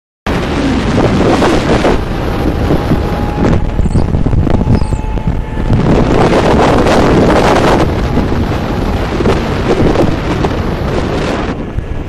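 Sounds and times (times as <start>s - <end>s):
wind buffeting microphone: 0.3s - 12.0s.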